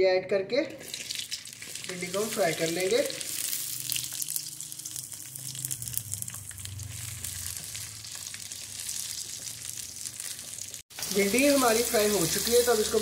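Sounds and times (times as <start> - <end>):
okra sizzling in hot oil: 0.8 - 13.0.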